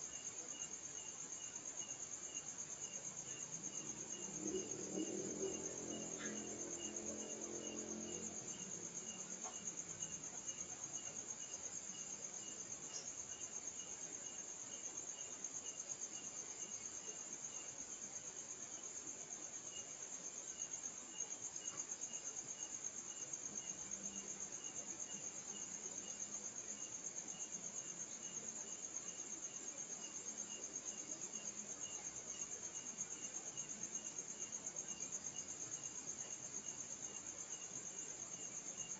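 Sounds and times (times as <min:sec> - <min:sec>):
crickets trilling: 0:00.0 - 0:38.9
insect chirping: 0:00.0 - 0:38.9.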